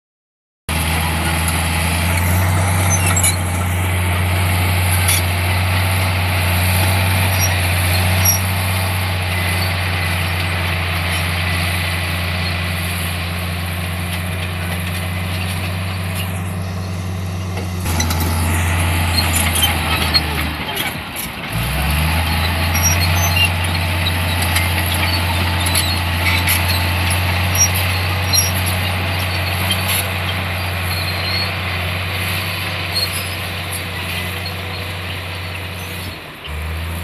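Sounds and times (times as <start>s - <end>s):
diesel engine droning: 0.7s - 37.0s.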